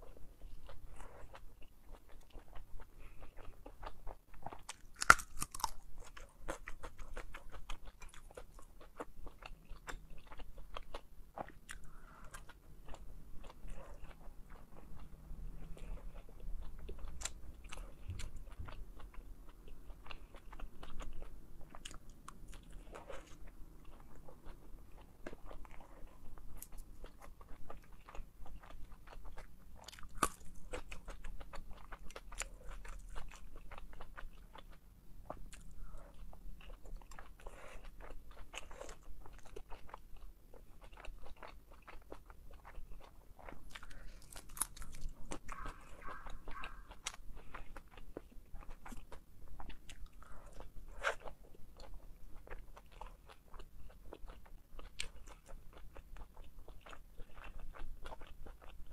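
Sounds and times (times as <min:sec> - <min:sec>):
crunchy chewing of dumplings: 0:00.0 - 0:58.9.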